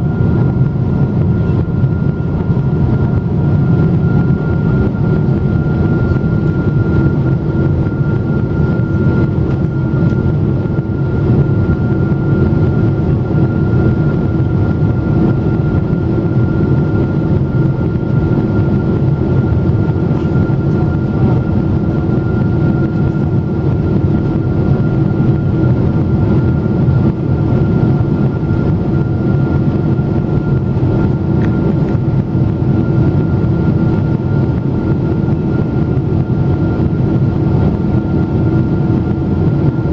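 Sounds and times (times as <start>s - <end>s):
constant whining tones: 0.0s - 39.9s
jet engine cabin rush: 0.0s - 39.9s.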